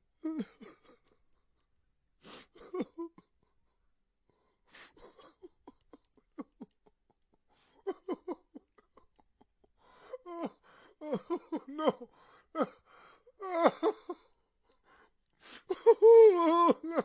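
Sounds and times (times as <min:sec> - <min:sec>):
man sobbing: 0:00.2 - 0:01.4, 0:02.2 - 0:03.7, 0:04.3 - 0:17.0.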